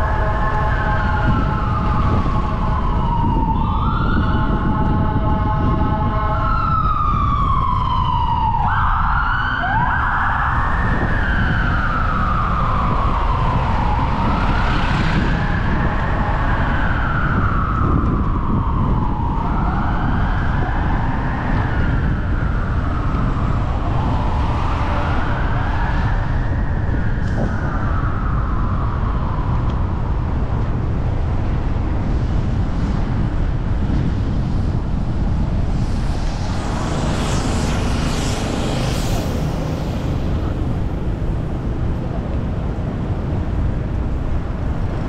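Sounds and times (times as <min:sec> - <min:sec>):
emergency siren wailing: 0:00.0 - 0:45.0
low road noise: 0:00.0 - 0:45.0.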